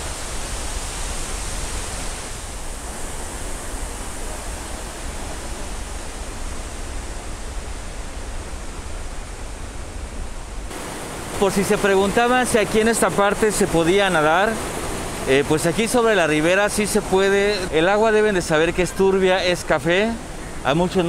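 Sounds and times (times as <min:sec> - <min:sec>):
waterfall rushing into river: 0:00.0 - 0:21.0.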